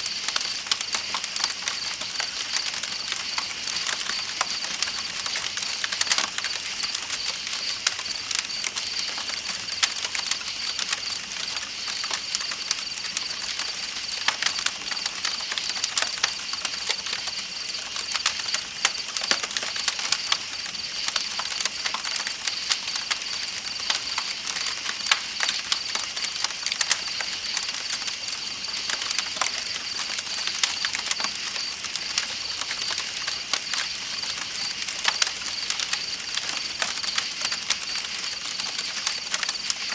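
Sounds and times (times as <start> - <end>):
campfire crackling and popping: 0.0 - 39.9
night insects chirping: 0.0 - 39.9.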